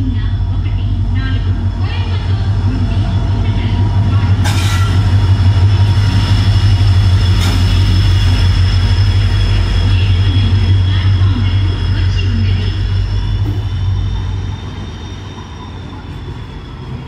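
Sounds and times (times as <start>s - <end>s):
locomotive engine rumble: 0.0s - 17.0s
train wheels on rails: 0.0s - 17.0s.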